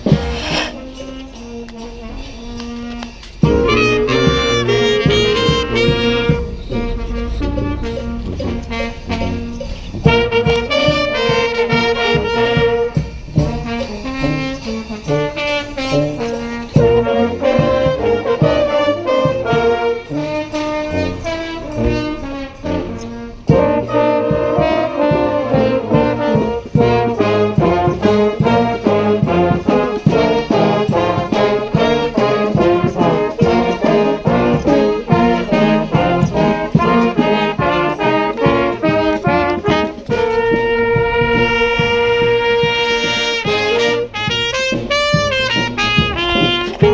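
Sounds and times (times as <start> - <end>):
brass band with drums playing: 0.0 - 46.9.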